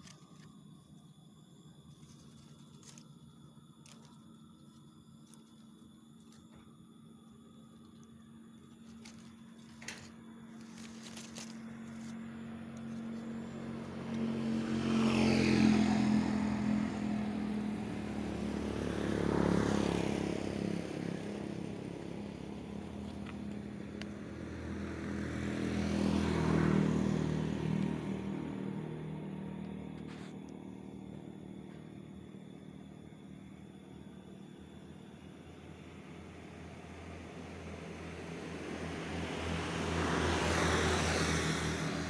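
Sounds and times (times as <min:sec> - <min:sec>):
steady engine hum: 0:00.0 - 0:42.0
vehicles passing on road: 0:00.0 - 0:42.0.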